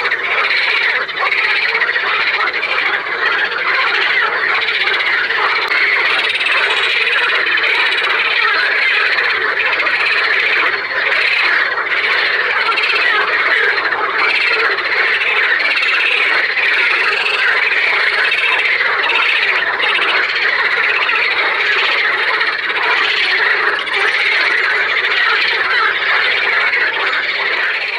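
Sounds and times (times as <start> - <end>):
frogs croaking chorus: 0.0 - 27.9.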